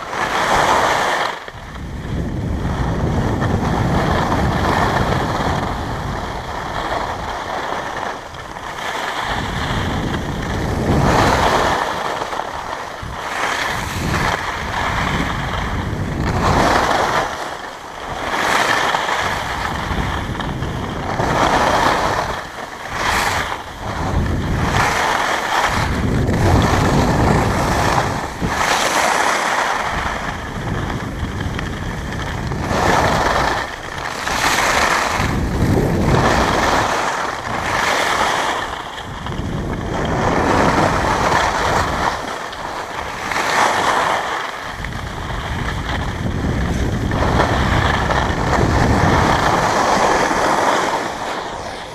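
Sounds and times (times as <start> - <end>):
wind rushing over microphone: 0.0 - 51.9
skis hissing on snow: 3.8 - 39.0, 39.9 - 51.9.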